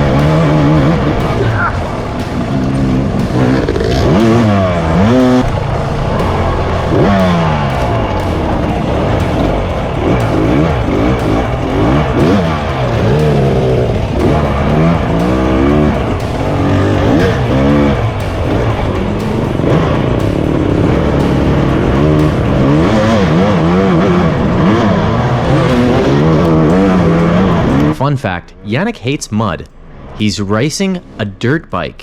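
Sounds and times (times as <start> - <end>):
dirt bike engine revving: 0.0 - 28.7.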